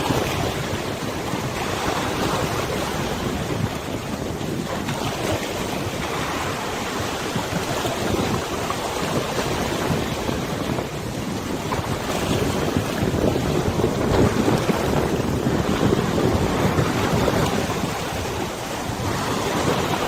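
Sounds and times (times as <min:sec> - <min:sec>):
water rushing: 0:00.0 - 0:20.0
wind buffeting microphone: 0:00.0 - 0:20.0.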